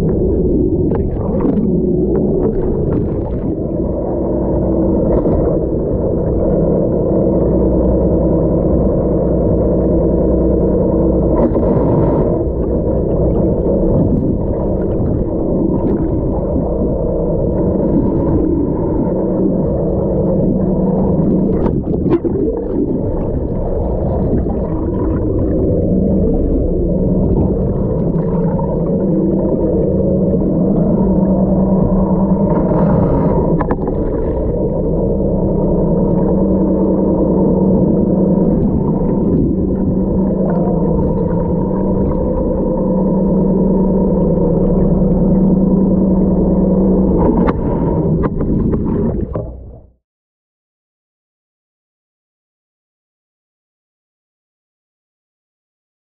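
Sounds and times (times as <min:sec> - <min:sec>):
muffled boat engine drone underwater: 0:00.0 - 0:50.0.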